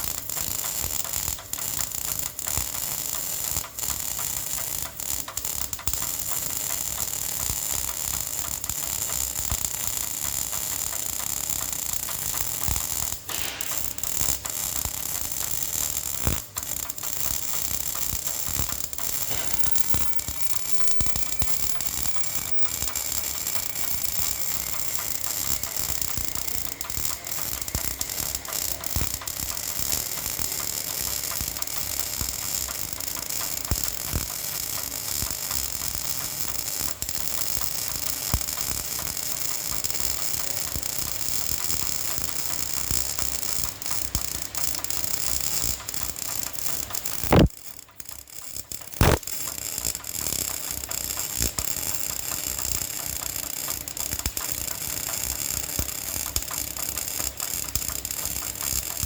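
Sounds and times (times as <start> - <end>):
arc welding crackling: 0.0 - 59.0
sharp crack of welding arc: 0.0 - 59.0.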